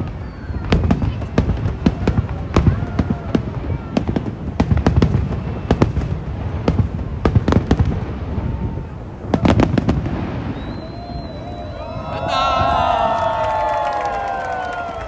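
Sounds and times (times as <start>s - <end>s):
fireworks bangs echoing: 0.0s - 13.4s.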